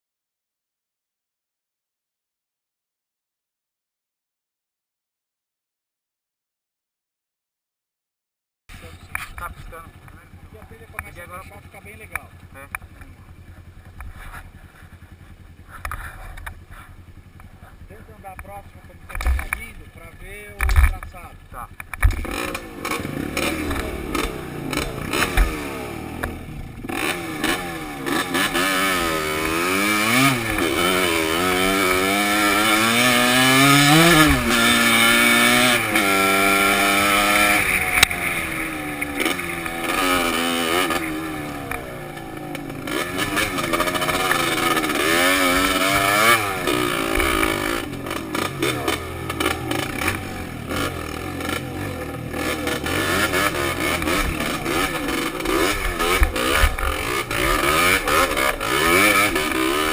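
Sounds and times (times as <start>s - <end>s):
dirt bike engine revving: 8.7s - 59.9s.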